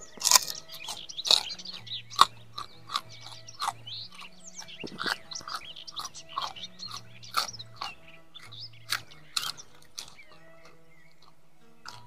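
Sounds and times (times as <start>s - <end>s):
birds chirping: 0.0s - 12.0s
crunchy chewing of raw vegetables: 0.0s - 12.0s.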